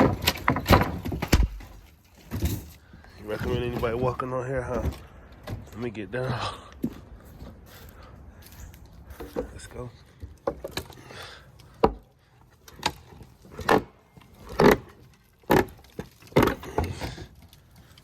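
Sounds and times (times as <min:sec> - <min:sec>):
wood splintering: 0:00.0 - 0:05.8, 0:09.0 - 0:18.0
wooden boards cracking: 0:00.0 - 0:05.8, 0:09.1 - 0:18.0.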